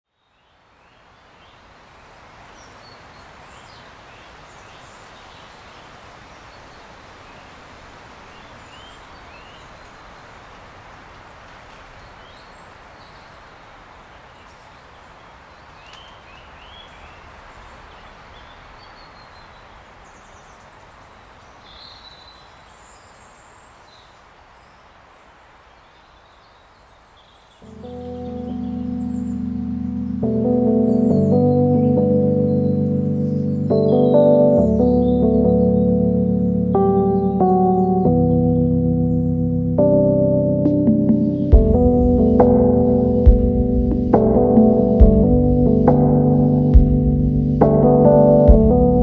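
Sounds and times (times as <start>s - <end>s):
small birds chirping: 0.1s - 40.1s.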